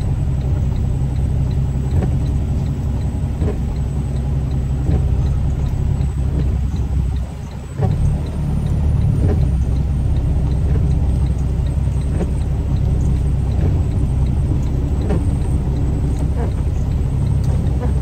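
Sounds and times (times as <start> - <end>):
faint ticking: 0.0 - 18.0
truck diesel engine rumbling: 0.0 - 18.0.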